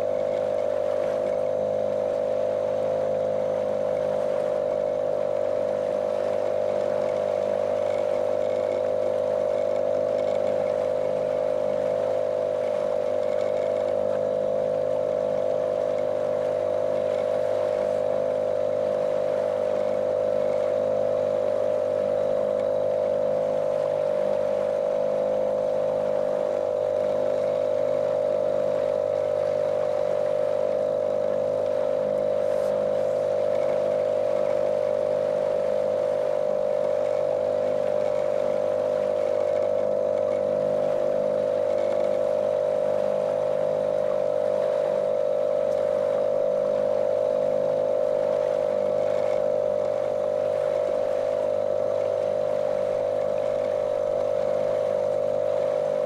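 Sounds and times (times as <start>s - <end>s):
outboard engine droning: 0.0s - 56.0s.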